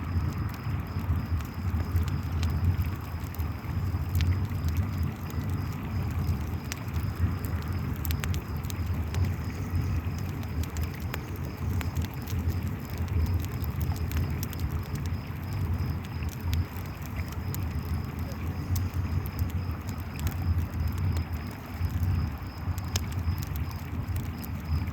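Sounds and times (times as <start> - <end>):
campfire crackling: 0.0 - 24.9
crickets chirping: 0.0 - 24.9.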